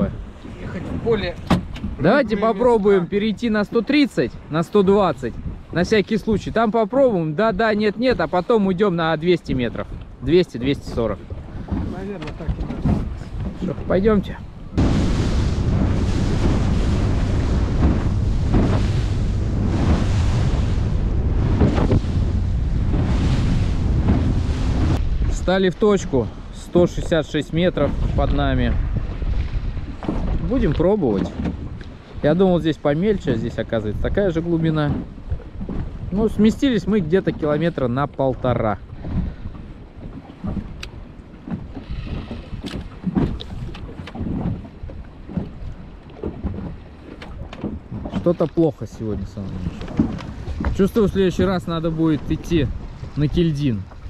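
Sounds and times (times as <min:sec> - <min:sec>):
wind on microphone: 0:00.0 - 0:06.6, 0:09.4 - 0:54.0
water rushing along hull: 0:00.0 - 0:54.0
waves slapping against bow: 0:00.0 - 0:54.0.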